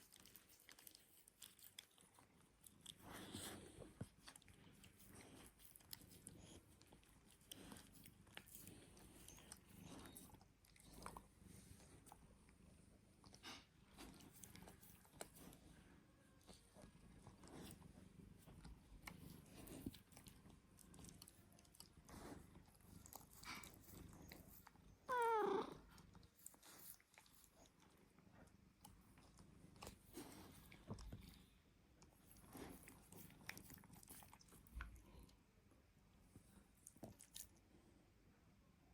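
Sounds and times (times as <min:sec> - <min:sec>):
animals scuffling and chewing: 0:00.0 - 0:35.4.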